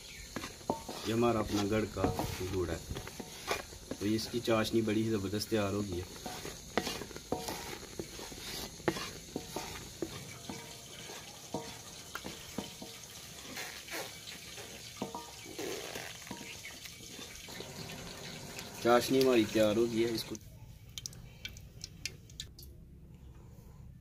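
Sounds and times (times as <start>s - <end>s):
wooden spatula scraping metal pan: 0.0s - 20.3s
thick syrup bubbling: 0.0s - 22.7s.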